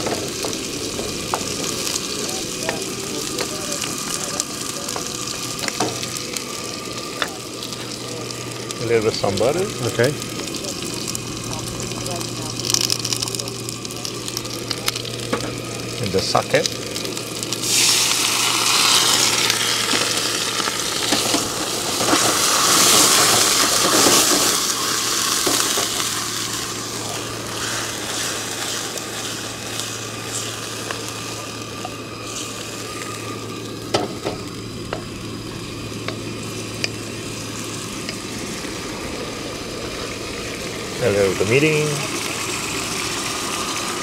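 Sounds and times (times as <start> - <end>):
food sizzling in a wok: 0.0 - 44.0.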